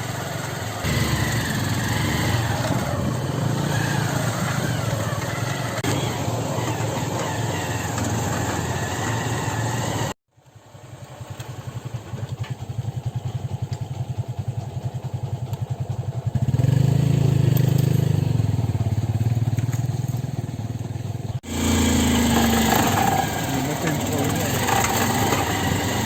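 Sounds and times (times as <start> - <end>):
motorcycle engine pulsing: 0.0 - 26.0.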